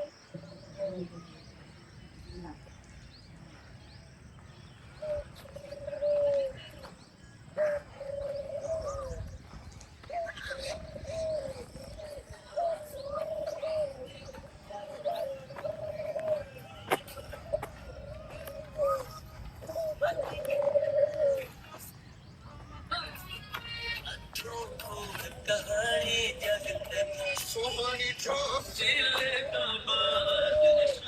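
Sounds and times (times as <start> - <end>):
doves cooing: 0.0 - 31.0
small birds chirping: 0.0 - 31.0.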